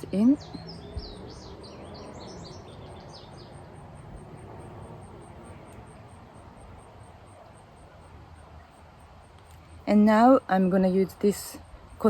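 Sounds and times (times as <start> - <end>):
low outdoor background noise: 0.0 - 12.0
songbird chirping: 0.0 - 12.0.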